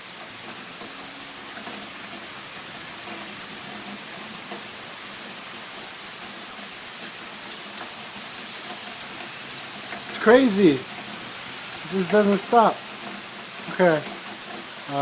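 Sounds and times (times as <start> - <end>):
raindrop ticks: 0.0 - 15.0
steady rain hiss: 0.0 - 15.0.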